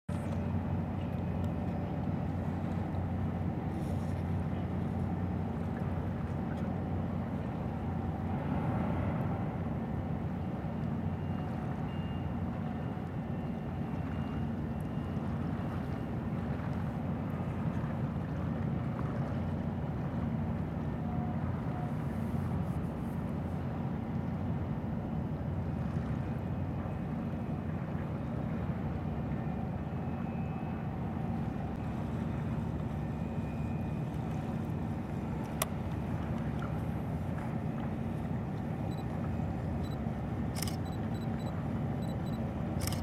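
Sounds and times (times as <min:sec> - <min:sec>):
ship engines droning: 0:00.1 - 0:43.0.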